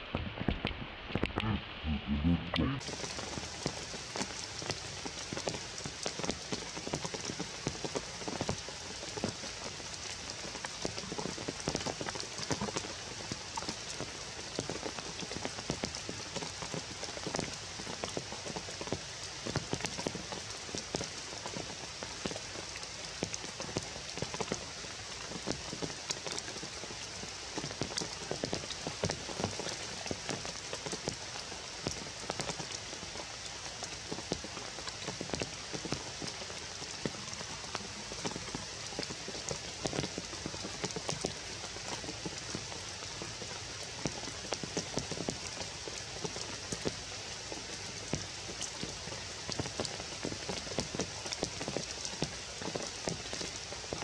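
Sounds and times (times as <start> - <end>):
rain falling on leaves: 0.0 - 1.4, 2.8 - 54.0.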